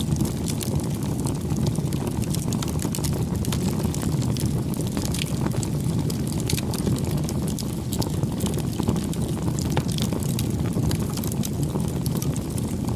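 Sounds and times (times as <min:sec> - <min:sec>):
burning wood crackling: 0:00.0 - 0:12.9
rumble of campfire flames: 0:00.0 - 0:12.9.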